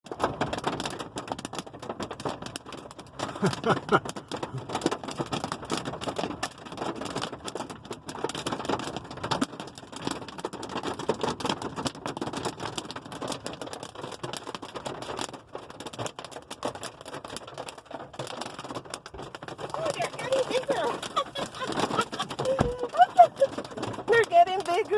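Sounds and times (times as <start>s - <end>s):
hailstones striking a hard surface: 0.0s - 24.9s.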